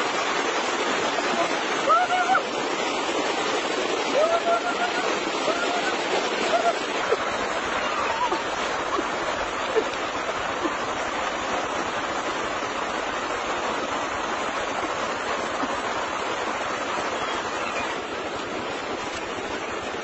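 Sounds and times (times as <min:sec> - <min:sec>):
flowing stream water: 0:00.0 - 0:20.0.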